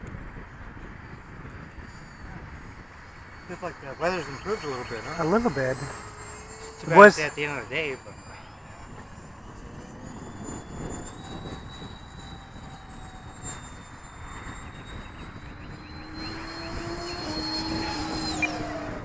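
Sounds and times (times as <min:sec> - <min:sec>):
model jet fan whine: 0:00.0 - 0:19.0
wind buffeting microphone: 0:00.0 - 0:19.0.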